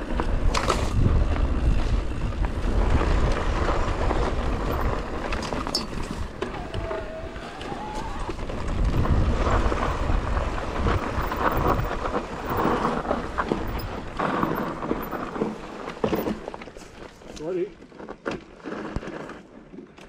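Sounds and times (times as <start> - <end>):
wind rumbling on microphone: 0.0 - 17.2
bike rattling and crunching: 0.0 - 20.0.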